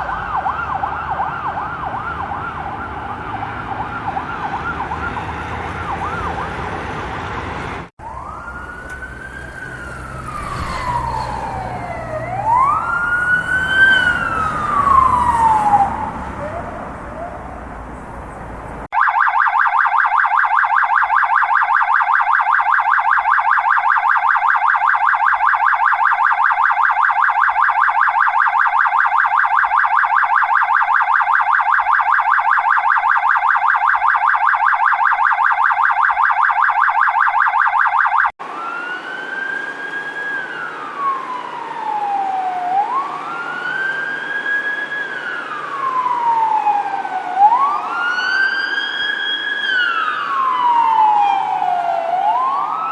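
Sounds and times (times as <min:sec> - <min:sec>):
rapid pulsing electronic siren: 0:00.0 - 0:06.7, 0:08.0 - 0:52.9
police siren wailing: 0:00.0 - 0:07.2, 0:07.8 - 0:52.9.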